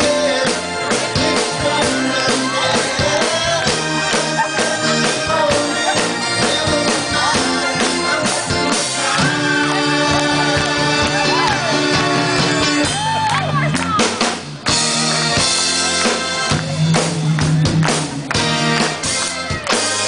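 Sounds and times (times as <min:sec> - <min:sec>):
drum kit beating: 0:00.0 - 0:20.0
electric bass and guitars: 0:00.0 - 0:20.0.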